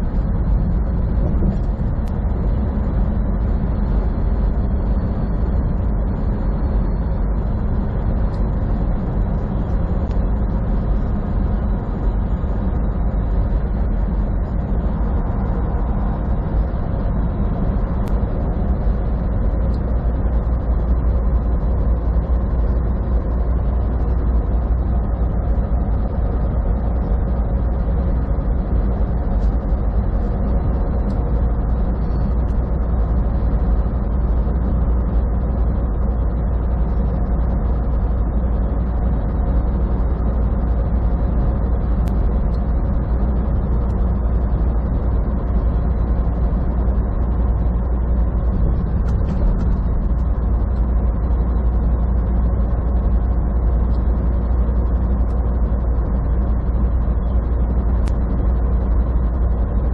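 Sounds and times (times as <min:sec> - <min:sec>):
truck engine and road drone: 0:00.0 - 0:59.9.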